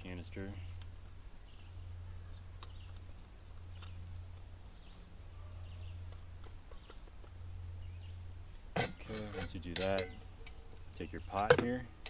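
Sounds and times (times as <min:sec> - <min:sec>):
small metallic clicks and scrapes: 0:00.5 - 0:12.0.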